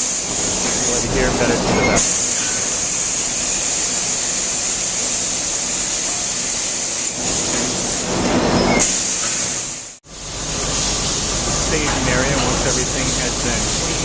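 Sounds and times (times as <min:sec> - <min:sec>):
abrasive blasting hiss: 0:00.0 - 0:08.1, 0:08.8 - 0:14.0
factory machinery hum: 0:00.0 - 0:14.0.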